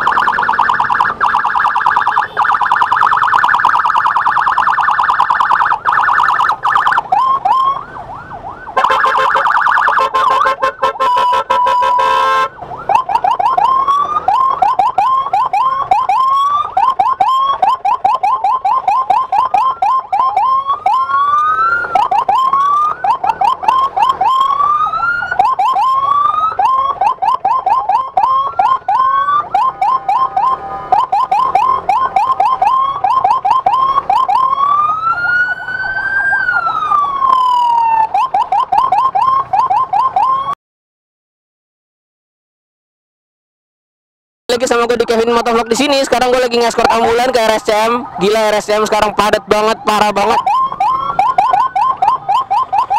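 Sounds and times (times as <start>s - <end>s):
electronic emergency siren: 0.0s - 40.6s, 44.5s - 52.9s.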